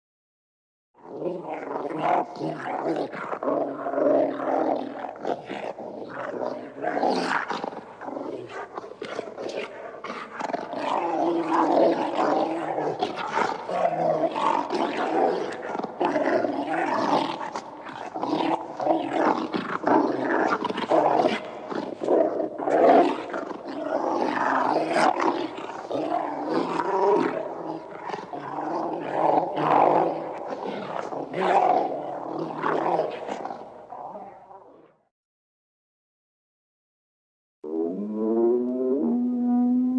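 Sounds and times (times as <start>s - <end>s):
dogs growling and howling: 1.0s - 34.9s, 37.6s - 39.9s.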